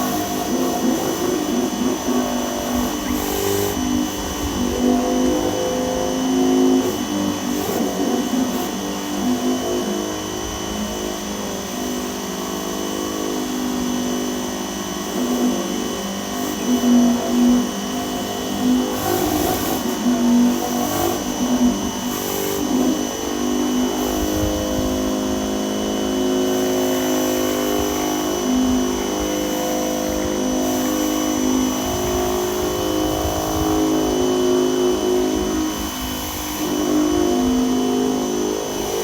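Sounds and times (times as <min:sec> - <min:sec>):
pressure washer motor humming: 0:00.0 - 0:39.0.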